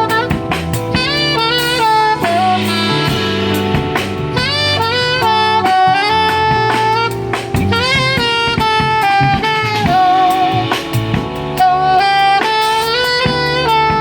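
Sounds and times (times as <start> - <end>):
jazz band bass and drums: 0.0 - 14.0
saxophone melody: 0.0 - 14.0.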